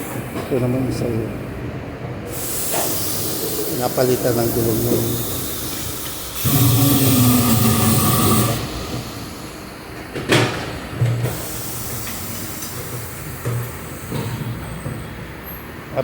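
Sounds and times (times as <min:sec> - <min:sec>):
air tool hissing and whirring: 0:02.3 - 0:15.6.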